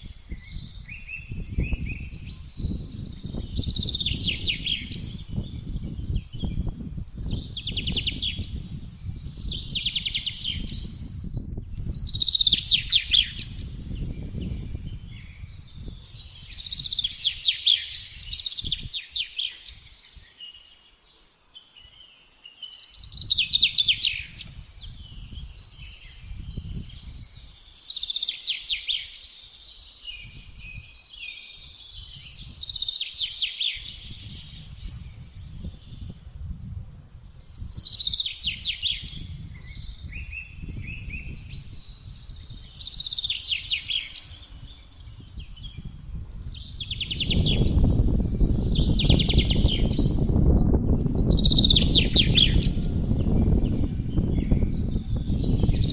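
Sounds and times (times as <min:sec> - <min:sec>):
wind gusts rumbling: 0:00.0 - 0:19.0, 0:23.0 - 0:27.6, 0:33.7 - 0:55.9
songbirds singing trilled phrases: 0:00.0 - 0:55.9.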